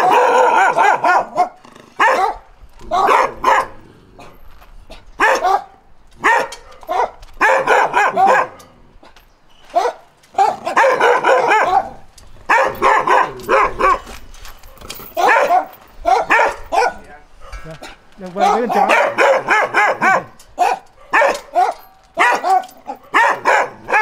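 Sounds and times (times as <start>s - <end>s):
dog barking: 0.0s - 3.8s, 5.2s - 8.8s, 9.7s - 14.1s, 15.2s - 24.0s.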